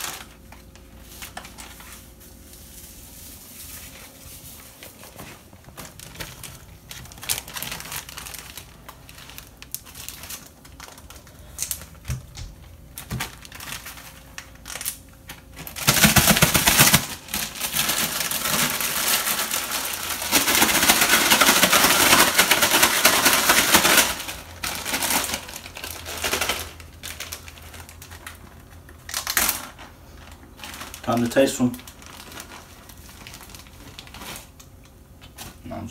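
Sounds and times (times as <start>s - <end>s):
plastic bag rustling and crinkling: 0.0s - 35.9s.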